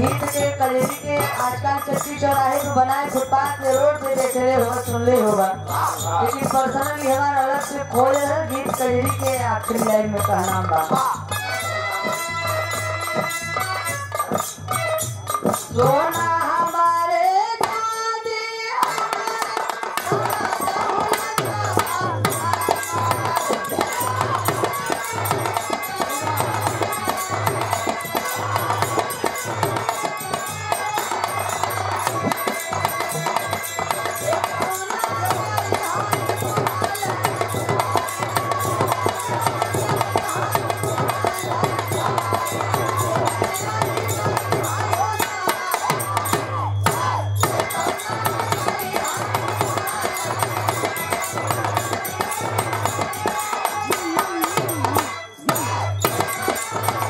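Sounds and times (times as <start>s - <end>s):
hand drums beating: 0.0s - 18.1s, 18.7s - 57.0s.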